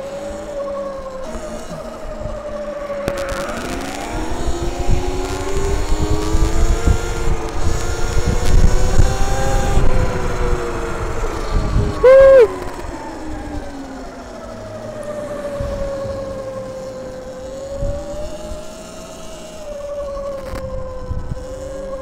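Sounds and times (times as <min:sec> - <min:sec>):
electric motor whine: 0:00.0 - 0:22.0
wind rumble on microphone: 0:00.0 - 0:22.0.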